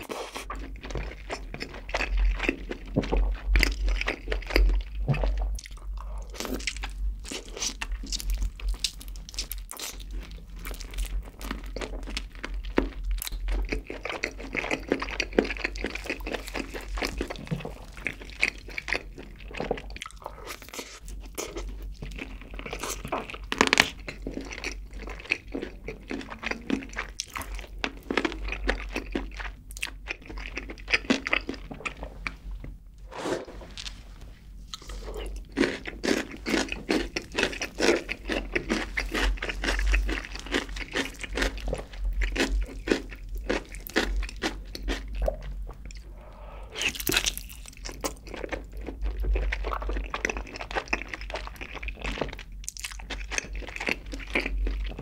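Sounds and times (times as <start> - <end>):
chewing and crunching: 0.0 - 32.8, 34.6 - 55.0.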